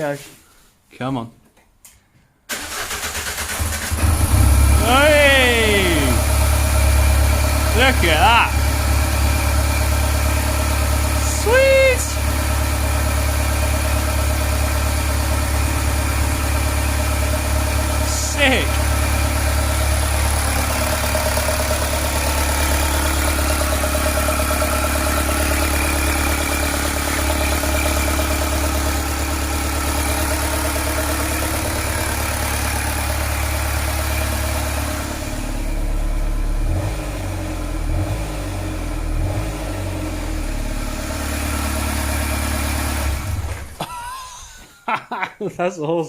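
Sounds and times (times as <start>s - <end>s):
van engine idling: 2.5s - 11.4s, 12.1s - 38.1s, 38.7s - 44.6s.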